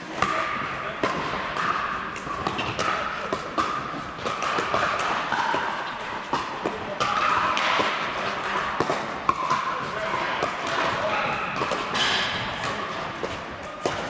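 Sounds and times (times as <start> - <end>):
background din of hall: 0.0 - 14.0.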